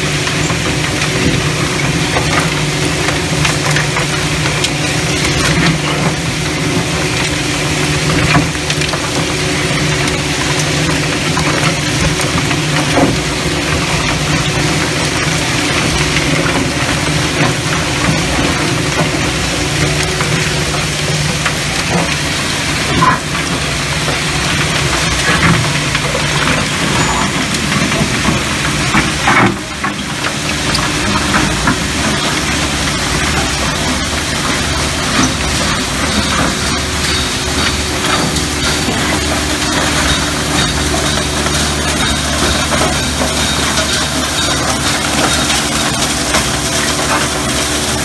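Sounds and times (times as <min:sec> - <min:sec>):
machinery din with low hum: 0:00.0 - 0:48.0.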